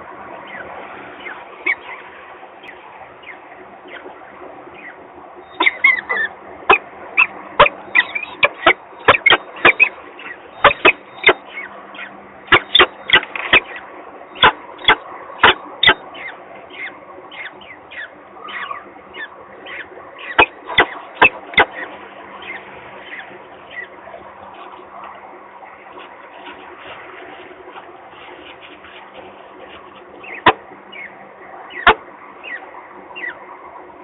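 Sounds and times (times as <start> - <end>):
falcon chick peeping: 0.5 - 33.5.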